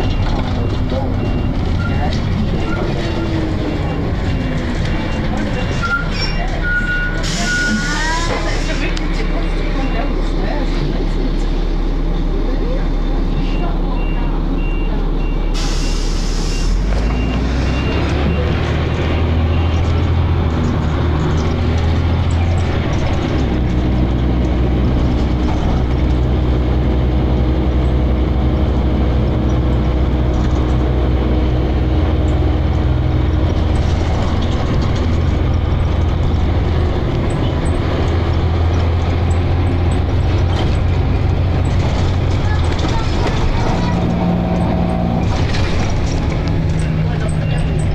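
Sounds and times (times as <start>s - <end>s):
bus engine running: 0.0s - 47.9s.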